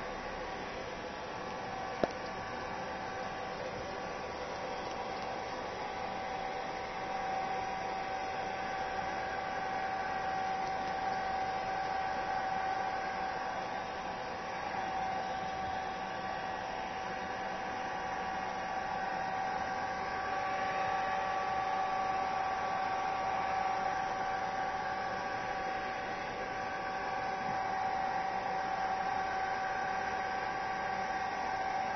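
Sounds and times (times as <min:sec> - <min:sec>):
hair dryer running: 0:04.5 - 0:31.9.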